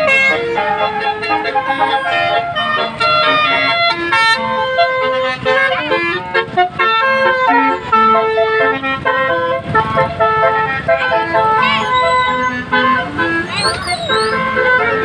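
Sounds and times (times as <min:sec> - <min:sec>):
multi-tone air horn melody: 0:00.0 - 0:15.0.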